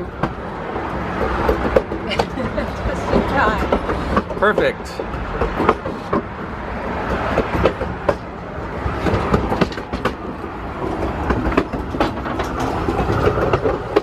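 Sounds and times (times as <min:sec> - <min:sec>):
train car rumbling on track: 0:00.0 - 0:14.0.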